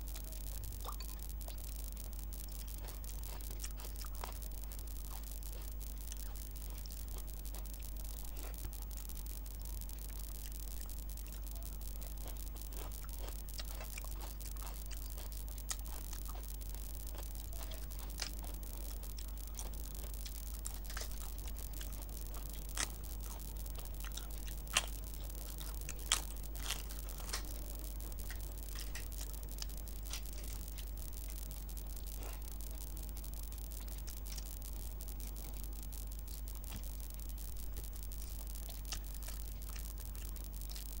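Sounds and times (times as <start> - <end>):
steady low hum: 0.0 - 41.0
chewing mouth noises: 0.1 - 9.1, 10.0 - 32.8, 35.2 - 41.0.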